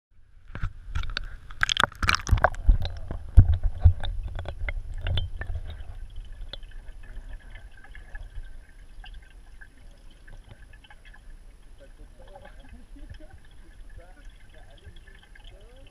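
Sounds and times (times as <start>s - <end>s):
water splashing and sloshing: 0.4s - 15.9s
muffled underwater noise: 1.7s - 15.9s.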